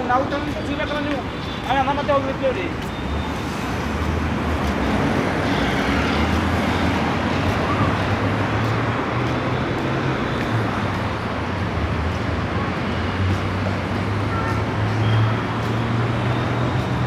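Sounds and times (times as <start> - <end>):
cars and motorbikes passing: 0.0 - 17.0.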